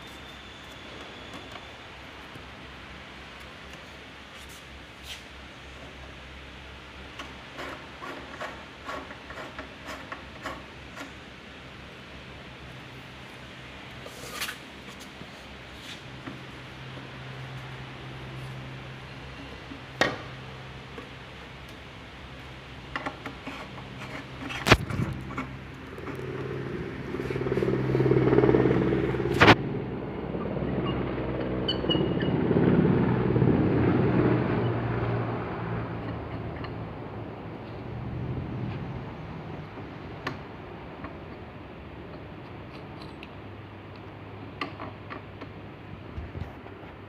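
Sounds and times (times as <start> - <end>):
engine-like hum: 0.0 - 47.0.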